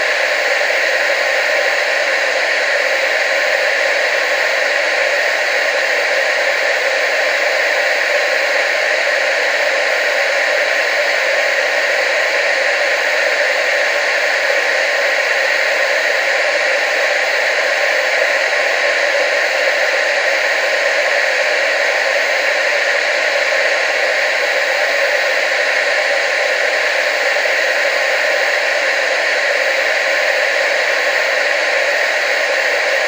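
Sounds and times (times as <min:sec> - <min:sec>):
tv static hiss: 0:00.0 - 0:33.0.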